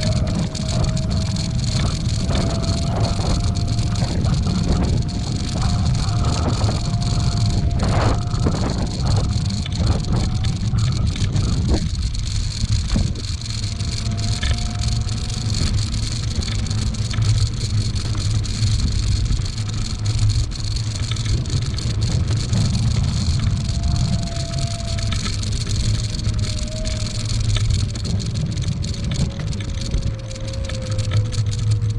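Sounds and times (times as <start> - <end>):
scooter rattling over bumps: 0.0 - 31.9
thin steady whine: 0.0 - 31.9
wind rumble on microphone: 0.0 - 31.9.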